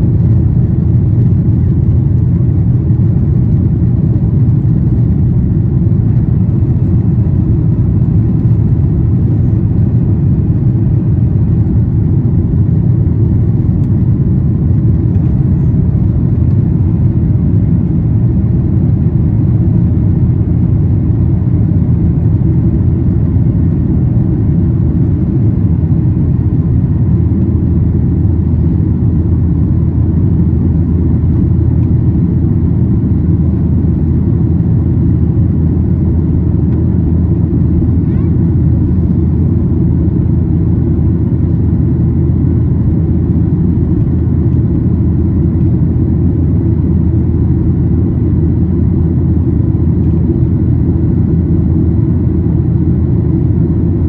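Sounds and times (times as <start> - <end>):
jet engines in aircraft cabin: 0.0 - 54.0.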